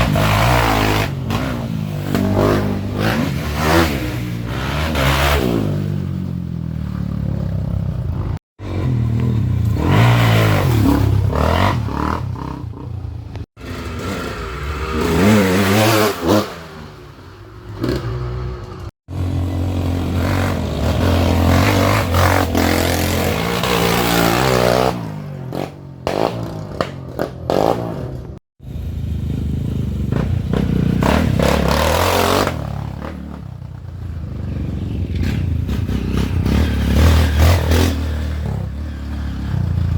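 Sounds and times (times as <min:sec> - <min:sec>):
motorcycle engines revving hard: 0:00.0 - 0:39.9.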